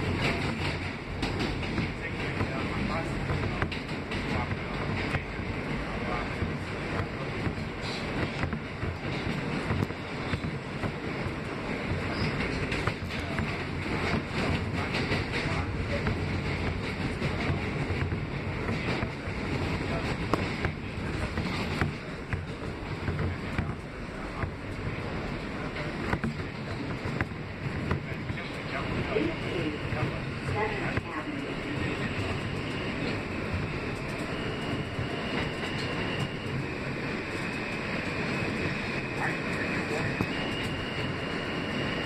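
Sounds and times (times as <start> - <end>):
passing subway train: 0.0 - 42.0
subway train wheels rumbling on rail: 0.0 - 42.0.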